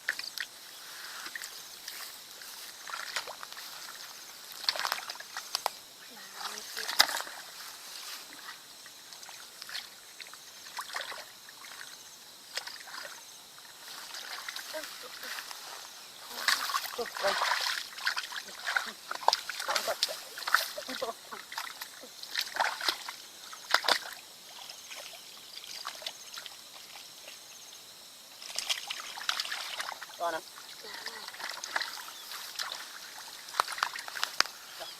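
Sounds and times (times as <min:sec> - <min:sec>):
small water splashes: 0:00.0 - 0:27.5, 0:28.4 - 0:34.9
water sloshing: 0:01.2 - 0:27.4, 0:28.4 - 0:34.9.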